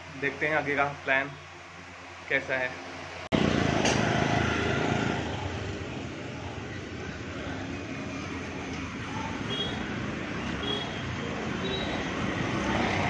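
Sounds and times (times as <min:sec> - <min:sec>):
street traffic engines rumbling: 0:00.0 - 0:13.0.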